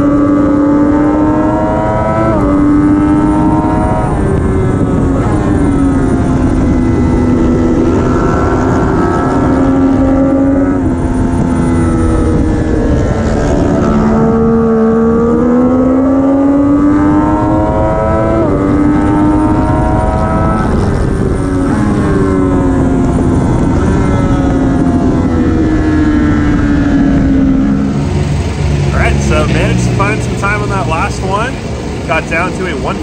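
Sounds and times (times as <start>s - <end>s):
motorcycle engine revving: 0.0s - 33.0s
wind rush on microphone: 0.0s - 33.0s.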